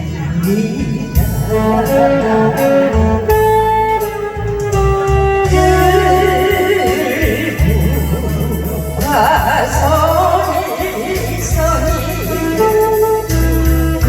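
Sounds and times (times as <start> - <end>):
instrumental pop melody: 0.0 - 14.0
steady bass line: 0.0 - 14.0.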